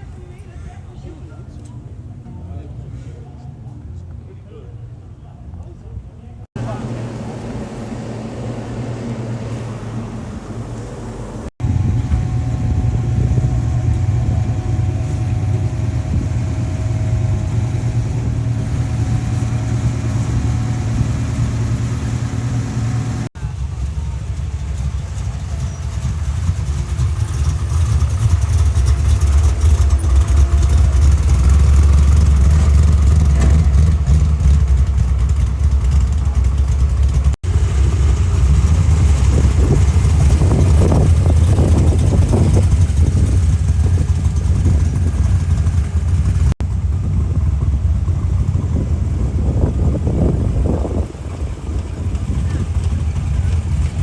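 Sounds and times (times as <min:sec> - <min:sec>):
car engines idling: 0:06.5 - 0:54.0.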